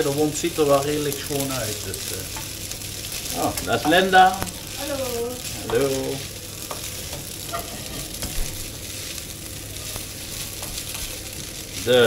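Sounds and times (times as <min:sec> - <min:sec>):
spaghetti sizzling in a frying pan: 0:00.0 - 0:12.0.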